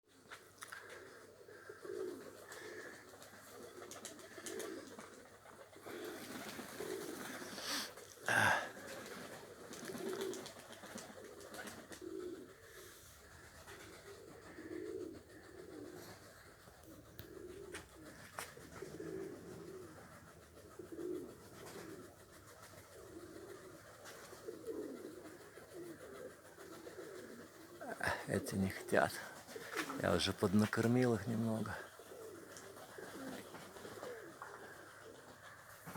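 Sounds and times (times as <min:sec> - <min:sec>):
pigeons cooing: 0:00.1 - 0:35.9.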